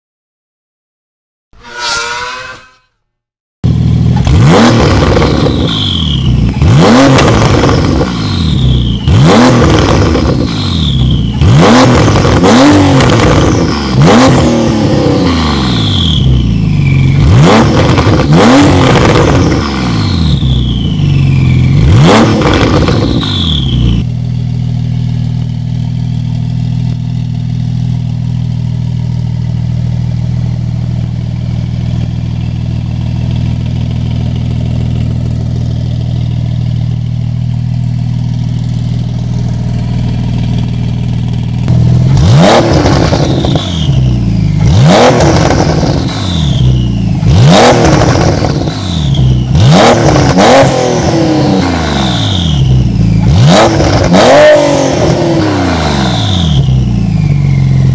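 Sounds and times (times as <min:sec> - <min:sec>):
car engine idling and revving: 0:03.6 - 0:57.9.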